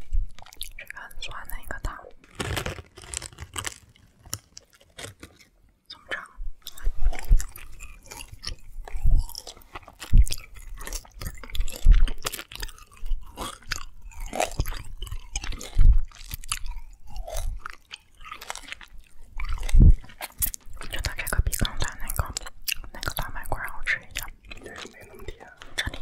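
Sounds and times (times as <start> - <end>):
chewing candy: 0.0 - 1.0, 2.3 - 26.0.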